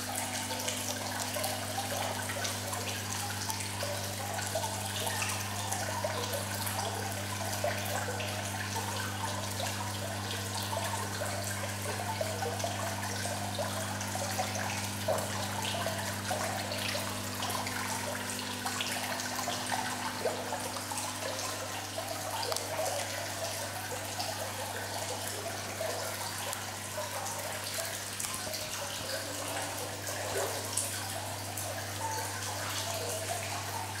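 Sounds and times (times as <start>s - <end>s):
water dripping and trickling into trough: 0.0s - 34.0s.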